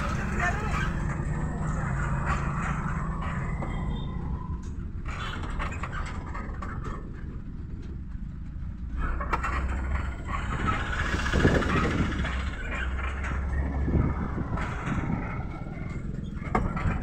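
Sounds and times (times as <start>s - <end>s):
road and tyre rumble: 0.0s - 17.0s
vehicle body rattles: 0.0s - 17.0s.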